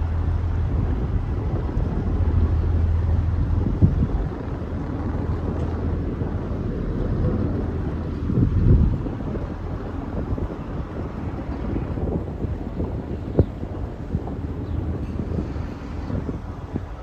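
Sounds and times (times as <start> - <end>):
boat engine humming: 0.0 - 17.0
wind buffeting microphone: 0.0 - 17.0.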